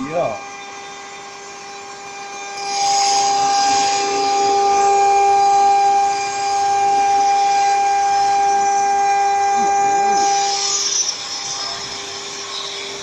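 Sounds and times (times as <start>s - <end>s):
bit cutting sheet material hiss: 0.0s - 13.0s
router spindle whine: 0.0s - 13.0s.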